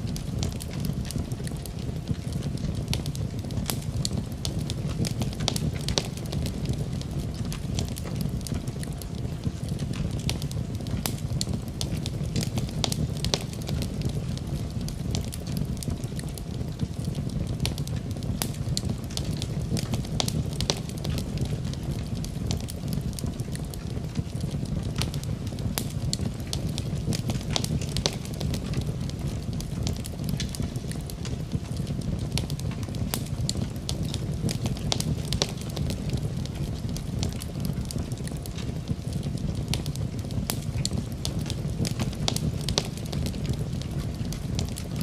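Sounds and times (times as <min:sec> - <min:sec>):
fire burning in fireplace: 0:00.0 - 0:45.0
fire crackles and pops: 0:00.0 - 0:45.0.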